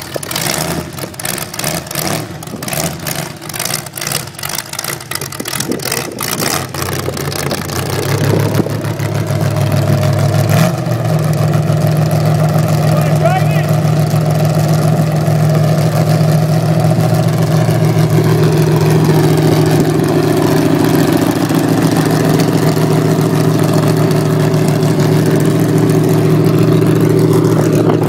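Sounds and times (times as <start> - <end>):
pickup truck engine idling: 0.0 - 28.0.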